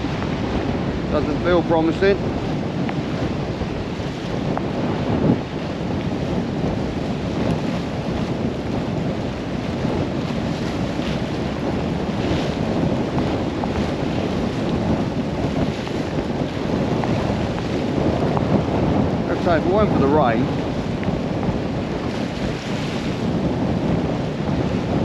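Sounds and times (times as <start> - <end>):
storm wind buffeting microphone: 0.0 - 25.0.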